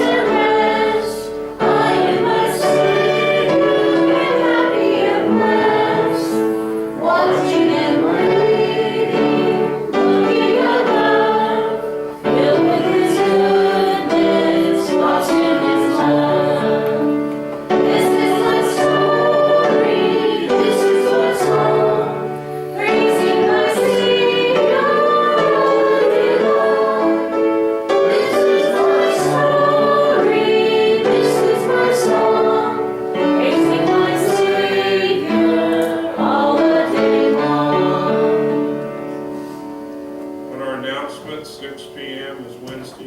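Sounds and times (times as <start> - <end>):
congregation singing a hymn: 0.0 - 43.0.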